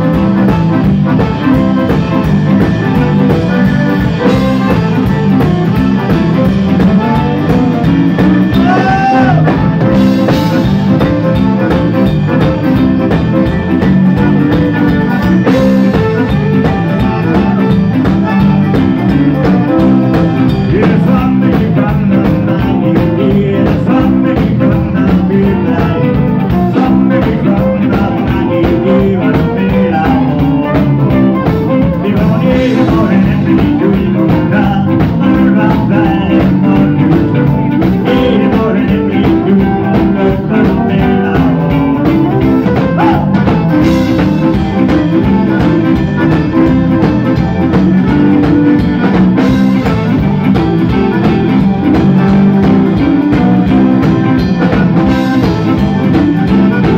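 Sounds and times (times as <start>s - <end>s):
button accordion: 0.0s - 56.9s
drum kit: 0.0s - 56.9s
electric bass: 0.0s - 56.9s.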